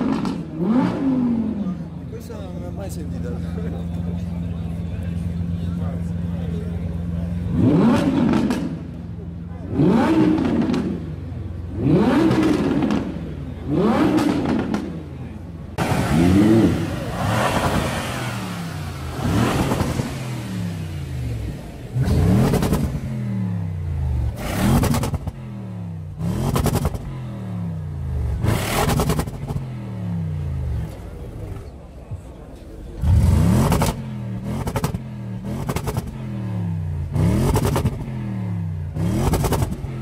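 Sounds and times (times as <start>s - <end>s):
car engine revving: 0.0s - 40.0s
second car engine revving: 0.0s - 40.0s.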